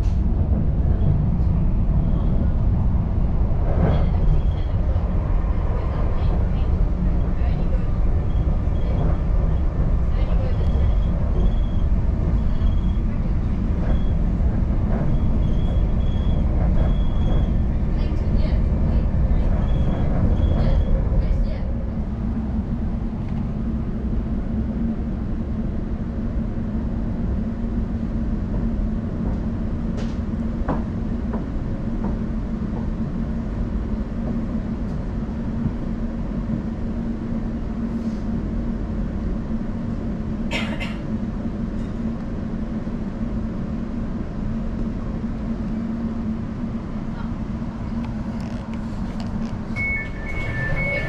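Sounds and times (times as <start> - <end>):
train rumble inside carriage: 0.0 - 51.0.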